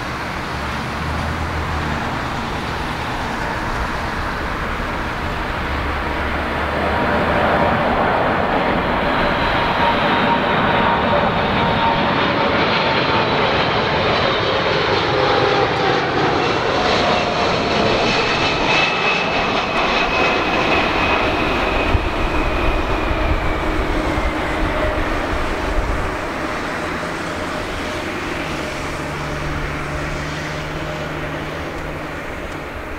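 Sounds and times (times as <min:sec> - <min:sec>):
jet airliner engines whining: 0:00.0 - 0:32.9.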